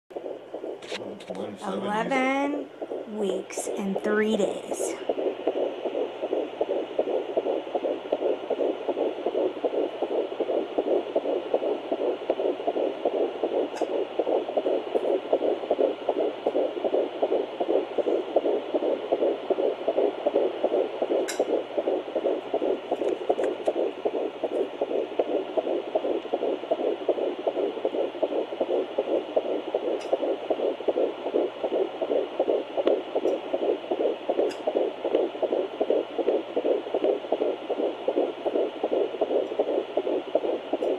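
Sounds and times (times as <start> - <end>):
fetal heartbeat pulsing: 0.1 - 40.9.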